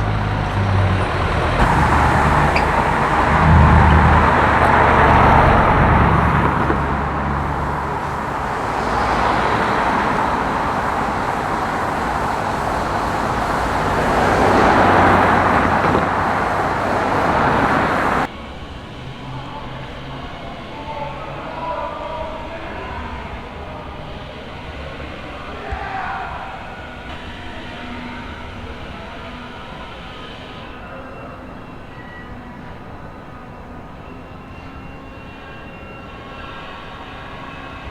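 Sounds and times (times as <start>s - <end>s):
vehicles passing: 0.0s - 37.9s.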